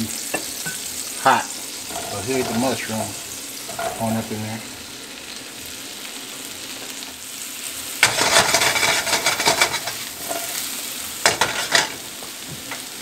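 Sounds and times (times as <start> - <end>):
mushrooms sizzling in a pan: 0.0 - 13.0.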